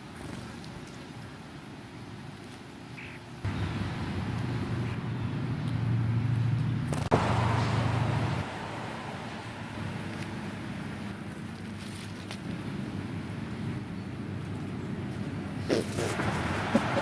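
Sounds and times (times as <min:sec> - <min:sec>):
engine humming: 0:03.4 - 0:17.0.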